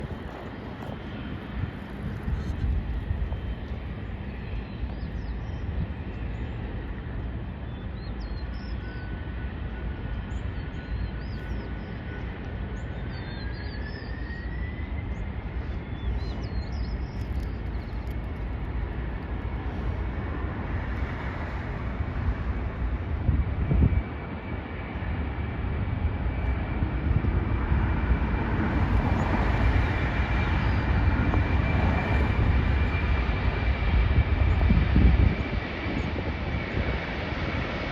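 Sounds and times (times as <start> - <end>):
jet engines rumbling: 0.0 - 37.9.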